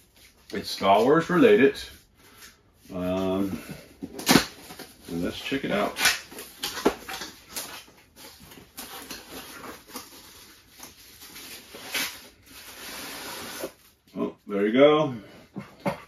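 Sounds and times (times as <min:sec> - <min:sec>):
cardboard rustling and scraping: 0:00.0 - 0:14.0.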